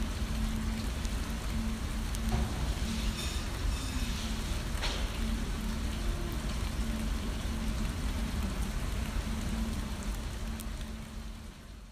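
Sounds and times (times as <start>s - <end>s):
dense crackling hiss: 0.0s - 11.9s.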